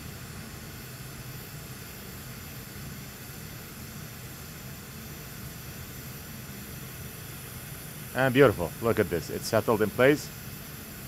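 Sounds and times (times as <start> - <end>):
hot air station hissing: 0.0 - 11.0.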